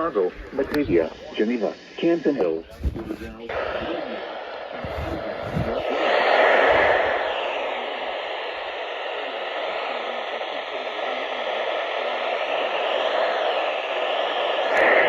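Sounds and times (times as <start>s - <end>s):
faint steady whine: 0.0s - 15.0s
radio crackle: 0.0s - 15.0s
radio static hiss: 0.0s - 15.0s.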